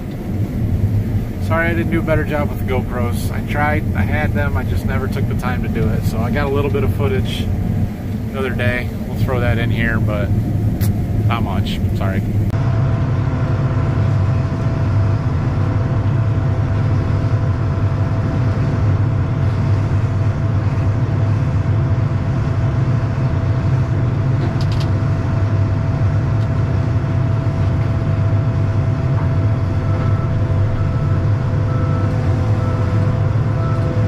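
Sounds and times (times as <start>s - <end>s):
combine harvester rumble: 0.0s - 34.0s
steady mechanical whine: 0.0s - 34.0s.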